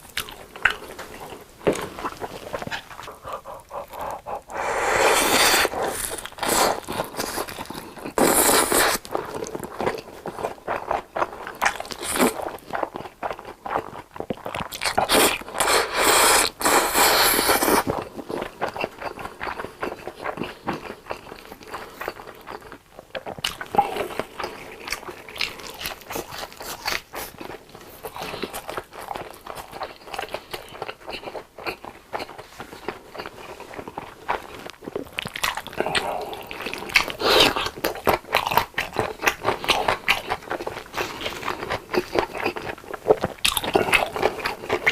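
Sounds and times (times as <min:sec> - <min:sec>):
quiet chewing: 0:00.0 - 0:44.9.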